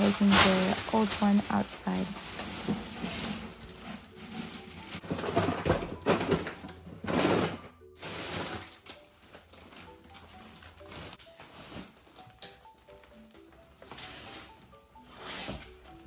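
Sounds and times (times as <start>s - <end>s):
plastic bin bag rustling: 0.0s - 16.0s
soft background music: 0.0s - 16.0s.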